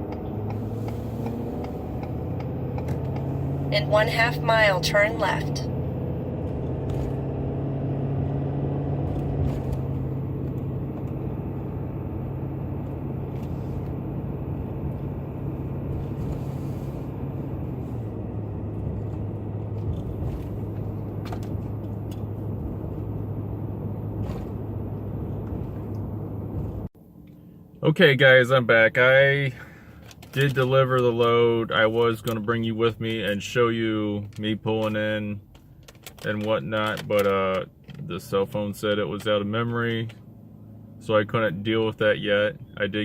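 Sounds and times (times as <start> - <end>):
diesel engine hum: 0.0 - 43.0
road noise: 0.0 - 43.0.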